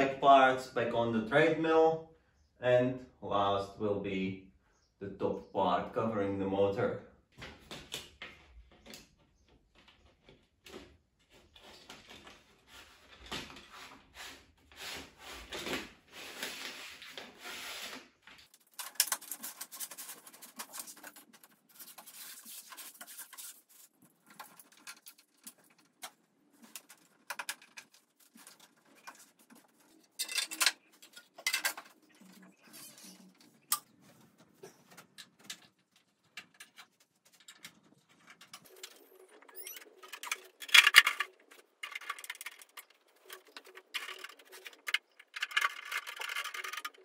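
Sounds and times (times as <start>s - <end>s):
plastic parts rubbing and scraping: 8.8s - 47.0s.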